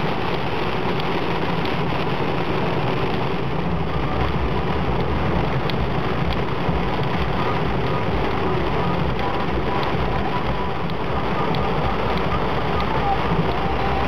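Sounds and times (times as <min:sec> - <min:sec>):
rain hitting a car: 0:00.0 - 0:14.0
road and engine rumble: 0:00.0 - 0:14.0.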